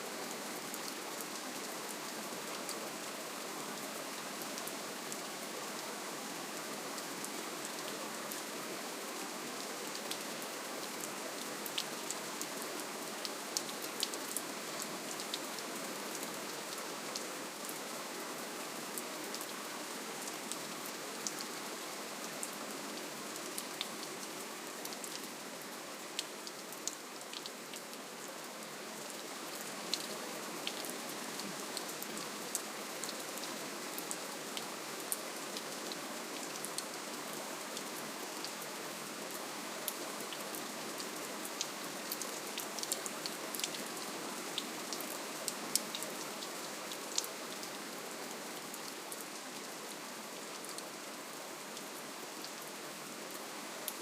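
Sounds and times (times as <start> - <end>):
gentle rain hissing: 0.0 - 54.0.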